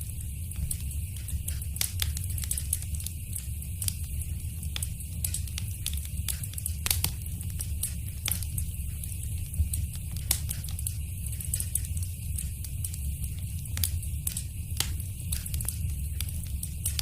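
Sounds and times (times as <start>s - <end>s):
fire crackling: 0.0s - 17.0s
sharp pops of fire: 0.5s - 17.0s.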